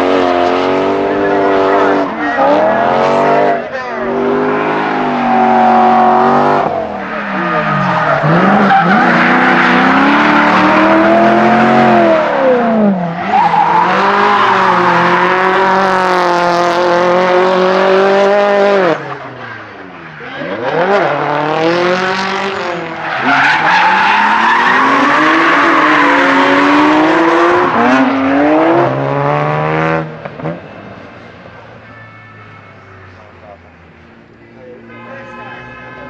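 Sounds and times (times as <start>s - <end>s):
tyres squealing and skidding: 0.0s - 29.0s
car engines revving: 0.0s - 32.0s, 32.7s - 36.0s.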